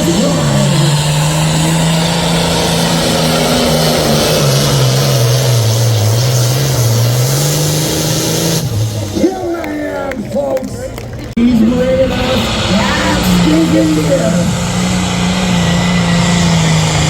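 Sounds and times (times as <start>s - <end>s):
tractor diesel engine at high revs: 0.0s - 10.4s, 11.3s - 17.0s.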